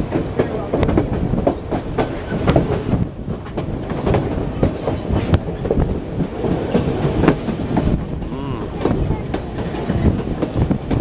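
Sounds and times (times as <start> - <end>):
train rumbling on rails: 0.0 - 11.0
wheels clanking over rail joints: 0.0 - 11.0.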